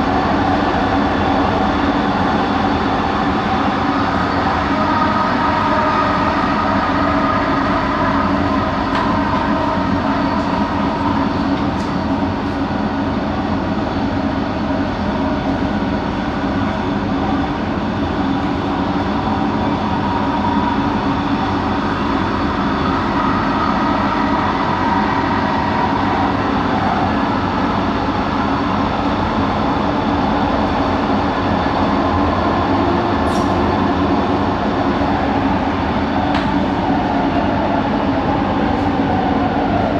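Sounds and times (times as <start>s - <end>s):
metro train rumbling: 0.0s - 39.9s.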